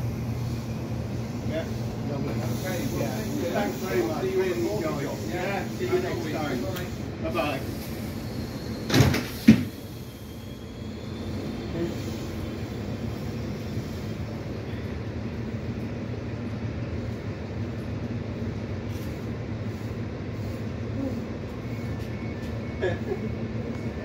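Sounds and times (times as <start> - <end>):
train coaches rolling past: 0.0 - 24.0.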